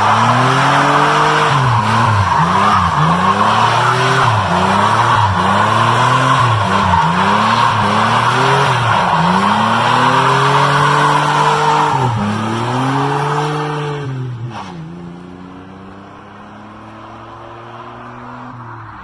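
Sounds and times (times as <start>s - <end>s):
car engine revving: 0.0s - 18.7s
tires screeching: 0.0s - 19.0s.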